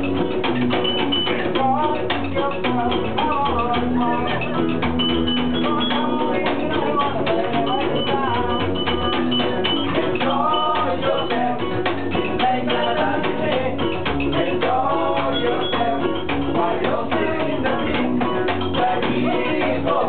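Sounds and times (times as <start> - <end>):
electric guitar: 0.0 - 20.0
ukulele: 0.0 - 20.0
upright double bass: 0.0 - 20.0
man singing: 1.3 - 4.8, 5.4 - 8.8, 9.7 - 20.0.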